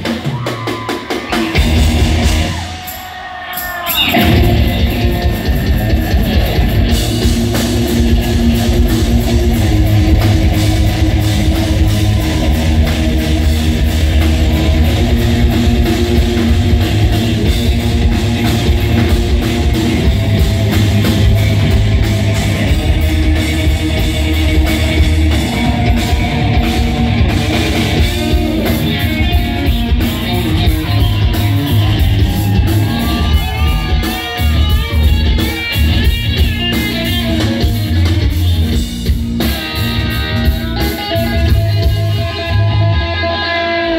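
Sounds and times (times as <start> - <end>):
live rock band playing: 0.0 - 43.9
sliding electric guitar notes: 3.9 - 43.9.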